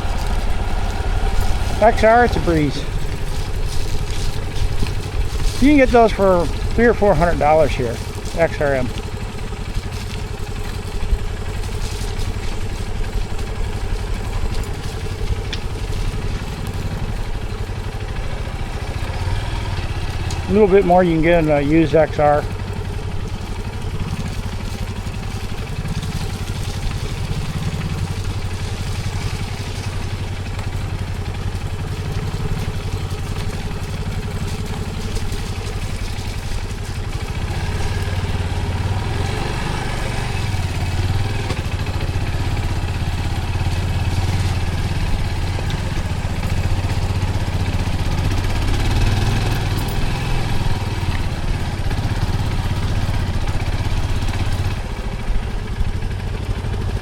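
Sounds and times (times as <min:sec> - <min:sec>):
small motorcycle engine running: 0:00.0 - 0:57.0.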